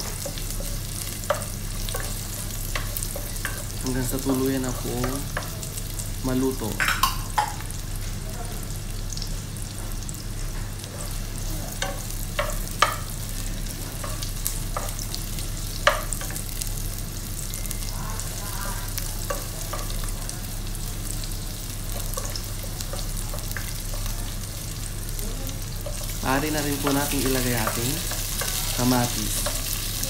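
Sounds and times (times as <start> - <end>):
onion and garlic sizzling in oil: 0.0 - 30.0.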